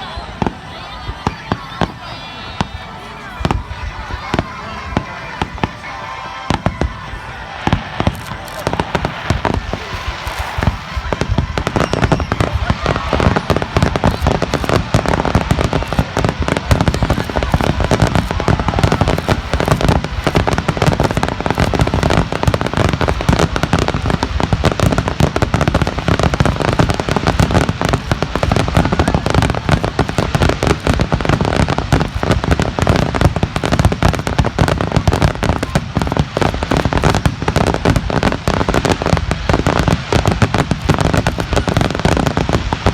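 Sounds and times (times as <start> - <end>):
fireworks booming: 0.0 - 42.9
fireworks crackling: 0.0 - 42.9.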